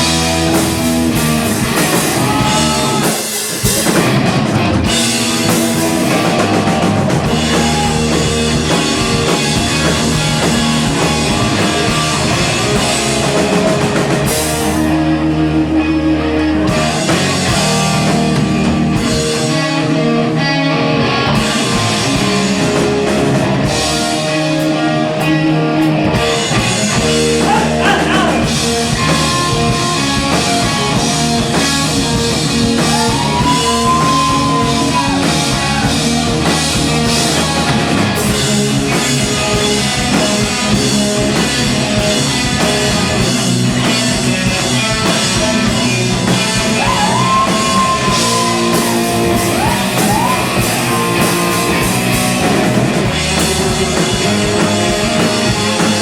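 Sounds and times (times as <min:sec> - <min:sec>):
bending electric guitar lead notes: 0:00.0 - 0:56.0
rock band playing live: 0:00.0 - 0:56.0.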